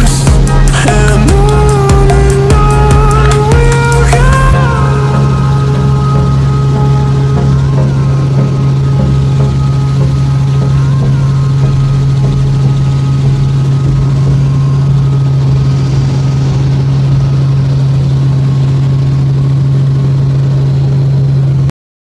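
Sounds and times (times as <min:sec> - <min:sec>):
helicopter rotor and engine drone: 0:00.0 - 0:21.7.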